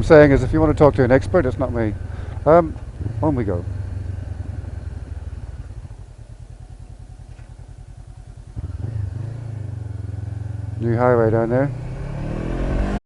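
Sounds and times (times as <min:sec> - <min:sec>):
motorcycle engine running at low revs: 0:00.0 - 0:13.0.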